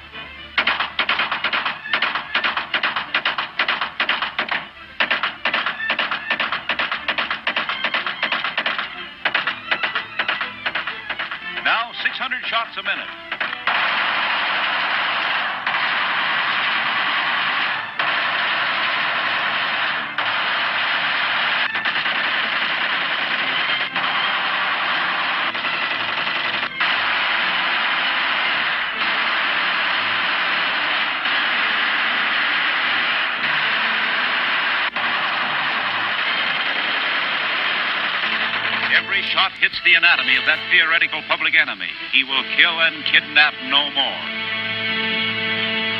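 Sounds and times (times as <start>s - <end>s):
automatic gunfire bursts: 0.6s - 41.3s.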